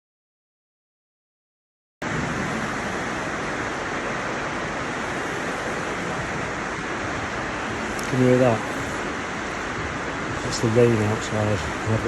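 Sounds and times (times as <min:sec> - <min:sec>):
rain pouring down: 0:02.0 - 0:12.0.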